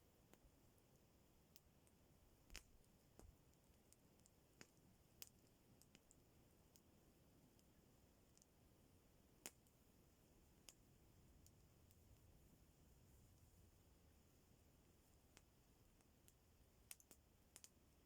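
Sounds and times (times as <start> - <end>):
faint campfire crackling: 0.0 - 18.0.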